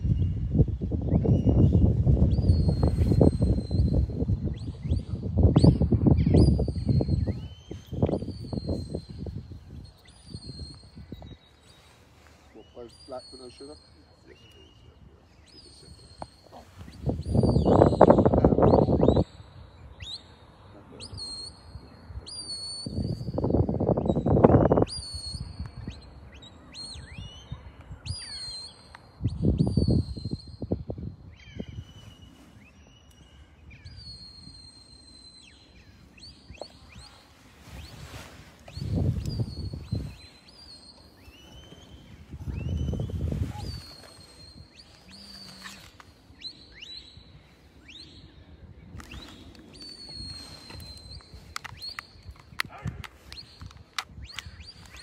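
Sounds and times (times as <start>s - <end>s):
wind gust on microphone: 0.0s - 13.0s, 14.2s - 20.1s, 20.7s - 28.4s, 29.1s - 32.7s, 35.8s - 55.0s.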